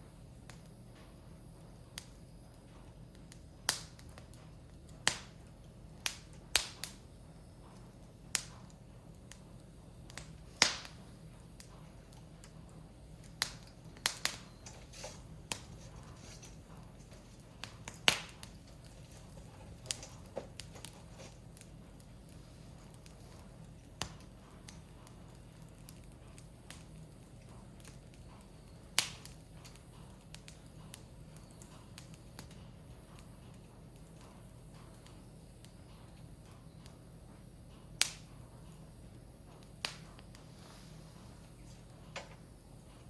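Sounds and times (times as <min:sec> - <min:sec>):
firewood crackling and popping: 0:00.0 - 0:43.0.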